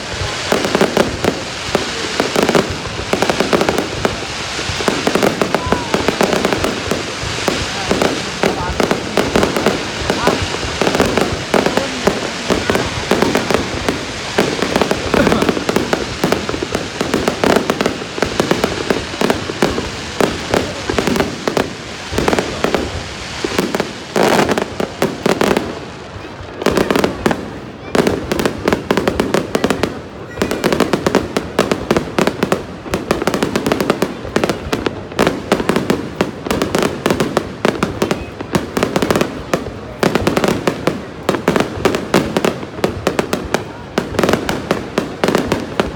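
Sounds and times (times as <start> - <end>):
fireworks crackling and popping: 0.0 - 45.9.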